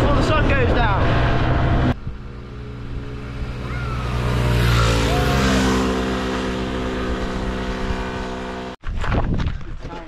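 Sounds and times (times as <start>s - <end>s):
scooter engines approaching: 0.2s - 8.8s.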